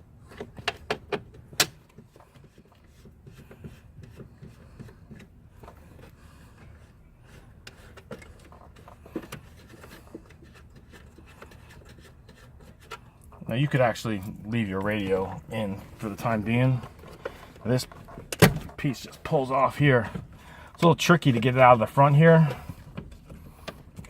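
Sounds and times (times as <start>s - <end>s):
faint scraping and handling: 1.8s - 24.0s.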